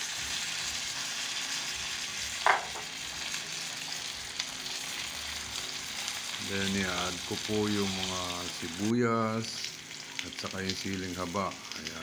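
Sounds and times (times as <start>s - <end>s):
fish sizzling in butter: 0.0s - 12.0s.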